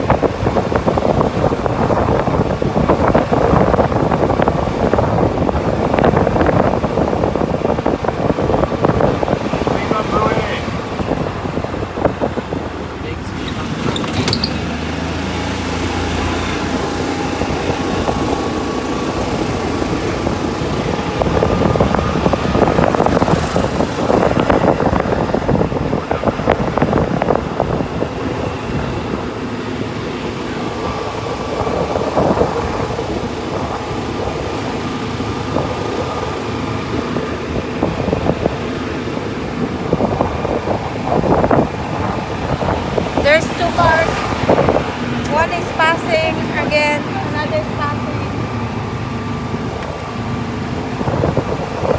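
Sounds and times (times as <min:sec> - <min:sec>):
vehicle driving on paved road: 0:00.0 - 0:51.9.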